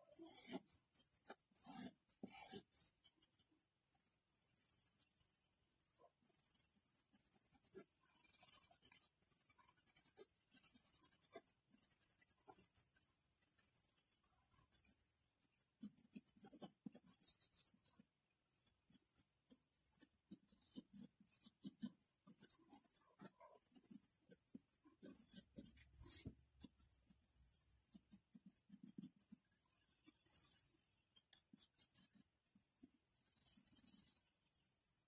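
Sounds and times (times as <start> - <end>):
pencil scratching on paper: 0.0 - 35.0.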